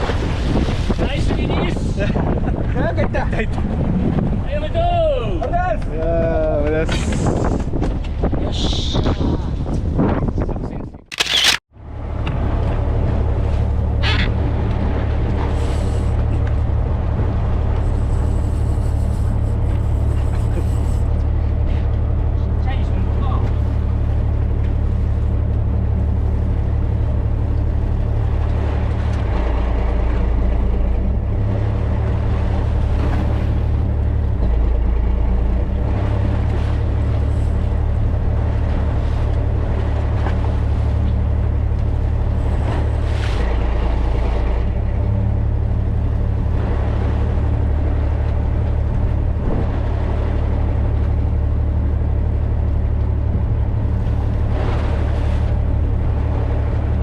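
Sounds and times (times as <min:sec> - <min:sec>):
water: 0:00.0 - 0:57.0
wind: 0:00.0 - 0:57.0
boat engine droning: 0:11.1 - 0:57.0.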